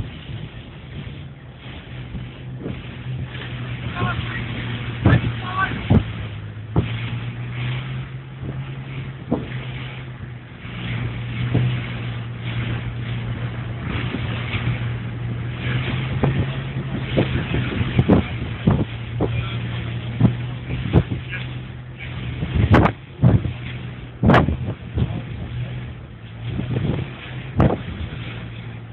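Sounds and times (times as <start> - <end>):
boat engines droning: 0.0 - 28.9
churning wake water: 0.0 - 28.9
wind buffeting microphone: 0.0 - 28.9.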